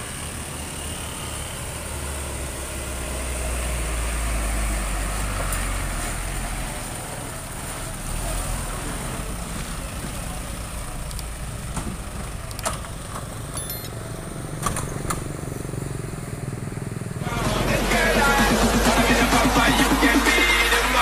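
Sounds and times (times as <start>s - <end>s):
diesel truck engines rumbling: 0.0s - 21.0s.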